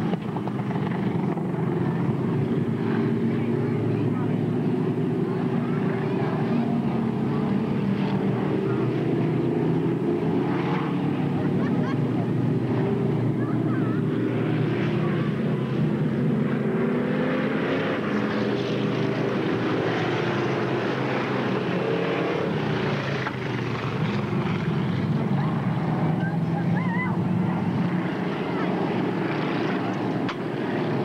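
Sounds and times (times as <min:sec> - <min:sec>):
race car engines droning: 0:00.0 - 0:31.0.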